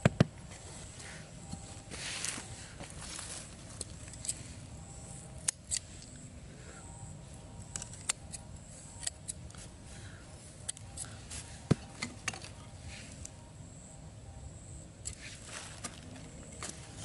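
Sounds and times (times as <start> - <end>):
faint high steady tone: 0.4 - 17.0.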